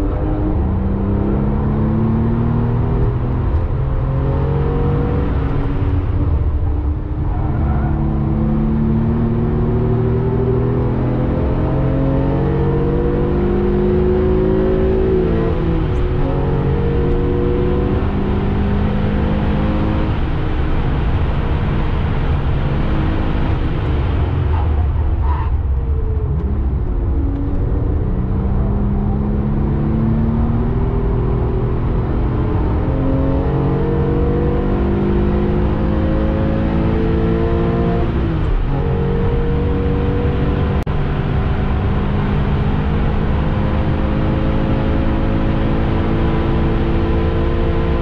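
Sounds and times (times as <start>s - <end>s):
car engine accelerating through gears: 0.0s - 48.0s
road and wind noise: 0.0s - 48.0s.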